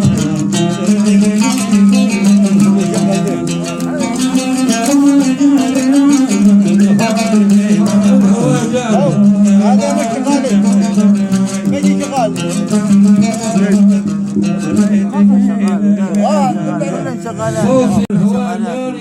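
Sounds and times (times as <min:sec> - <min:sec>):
oud plucked melody: 0:00.0 - 0:18.9.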